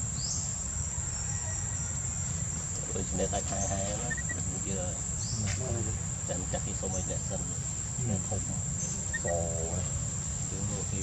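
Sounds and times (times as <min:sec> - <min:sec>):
high-pitched insect drone: 0:00.0 - 0:11.0
low background rumble: 0:00.0 - 0:11.0
distant voices: 0:00.2 - 0:11.0.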